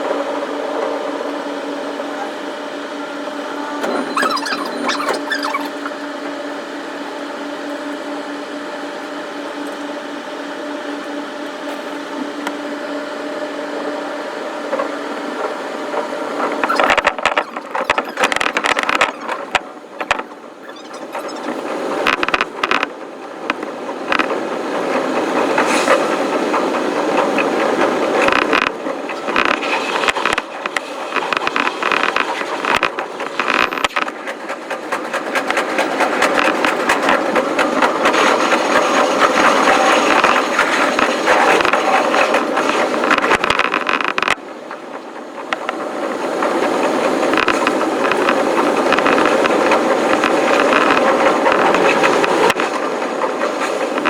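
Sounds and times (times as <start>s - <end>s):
electric train running hum: 0.0s - 54.0s
train wheels rattling on rails: 0.0s - 54.0s.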